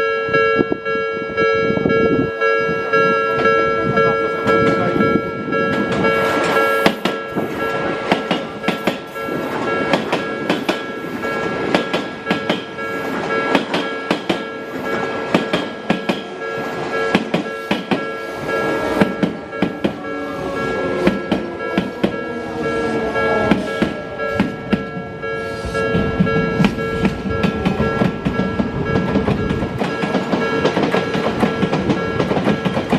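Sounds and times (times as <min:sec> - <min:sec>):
level crossing alarm ringing: 0:00.0 - 0:32.9
train wheels clicking on rail joints: 0:02.4 - 0:32.9.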